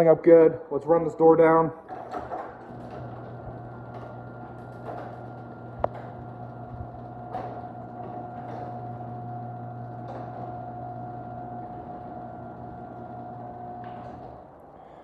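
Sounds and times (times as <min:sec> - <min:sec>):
garage door opener motor hum: 0:01.8 - 0:15.0.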